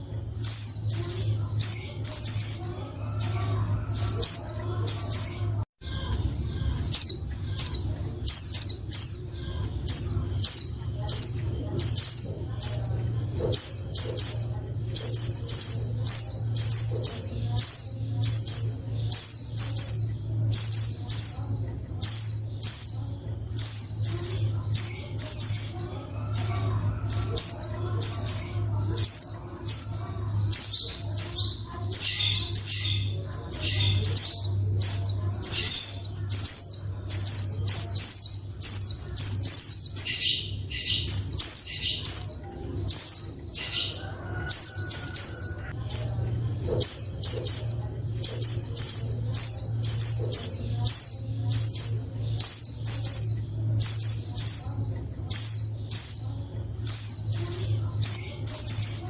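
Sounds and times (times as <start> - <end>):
bird chirping: 0.0 - 59.0.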